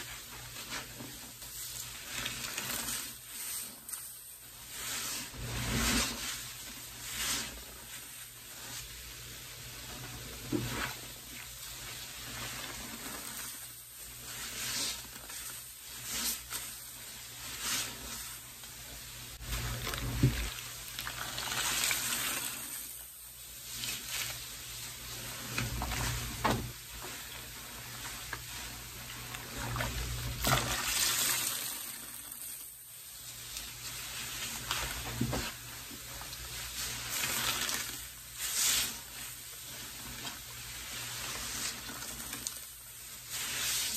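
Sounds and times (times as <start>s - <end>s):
sponges squeezed in soapy water: 0.0s - 43.9s.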